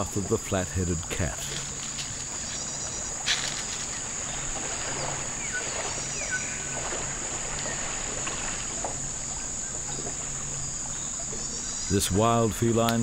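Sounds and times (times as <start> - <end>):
insects droning: 0.0 - 13.0
low pulsing hum: 0.0 - 13.0
water lapping and splashing: 0.0 - 13.0.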